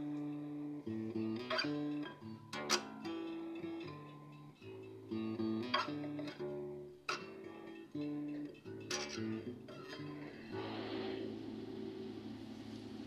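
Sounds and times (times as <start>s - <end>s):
fingerstyle acoustic guitar: 0.0s - 11.6s.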